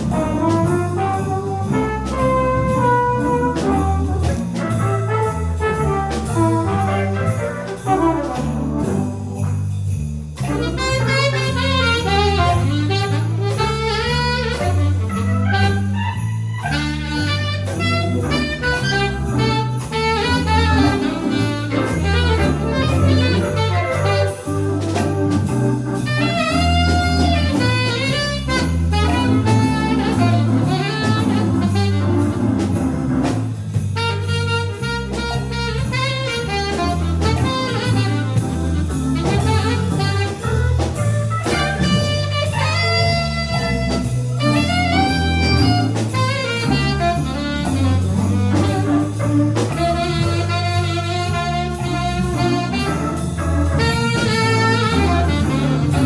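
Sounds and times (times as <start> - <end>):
bass line: 0.0 - 56.0
drum kit beat: 0.0 - 56.0
jazz melody line: 0.0 - 56.0.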